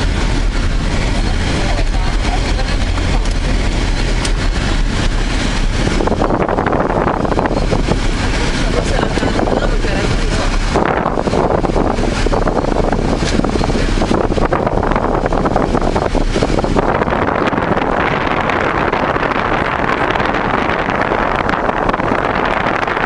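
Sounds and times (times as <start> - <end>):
heavy rain: 0.0 - 23.0
wind rumbling on microphone: 0.0 - 23.0.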